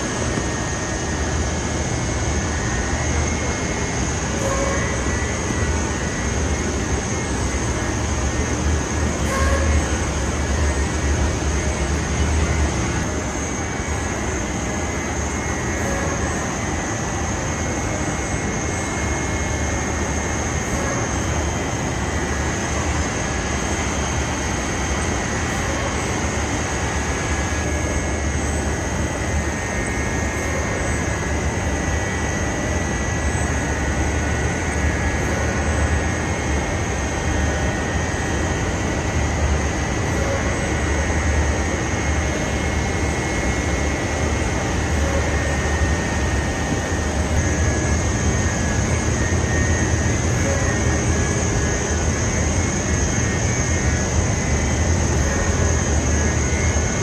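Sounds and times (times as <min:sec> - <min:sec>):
machinery low hum: 0:00.0 - 0:57.0.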